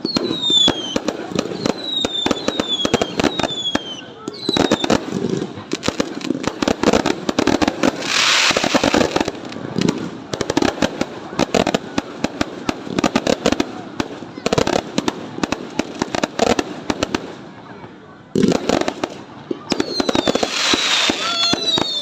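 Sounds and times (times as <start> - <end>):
fireworks hissing burst: 0.0 - 16.1, 18.6 - 22.0
fireworks popping and crackling: 0.0 - 22.0.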